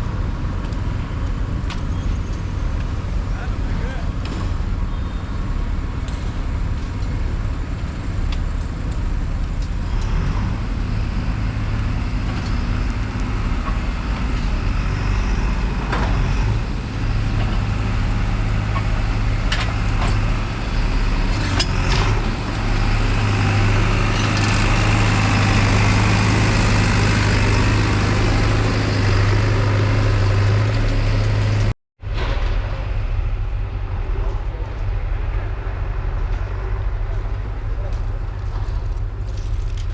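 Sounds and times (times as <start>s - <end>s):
heavy vehicle engine droning: 0.0s - 39.9s
street noise: 0.0s - 39.9s.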